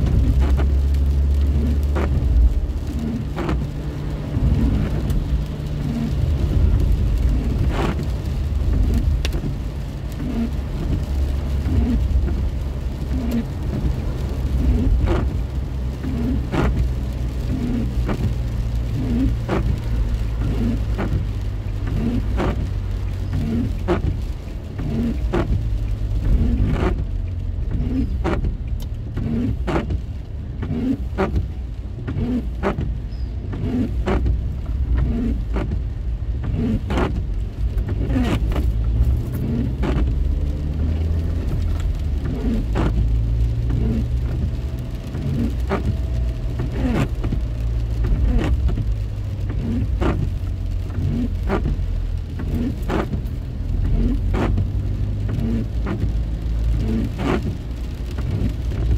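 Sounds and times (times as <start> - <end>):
road and engine rumble: 0.0 - 58.9.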